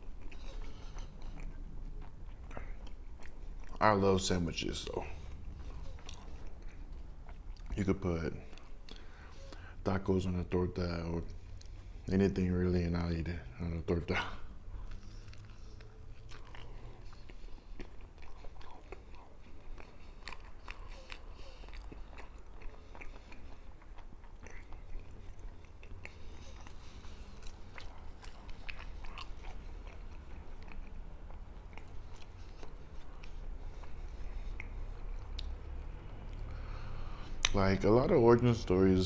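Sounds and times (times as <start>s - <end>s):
person chewing crunchy food: 0.0s - 37.6s.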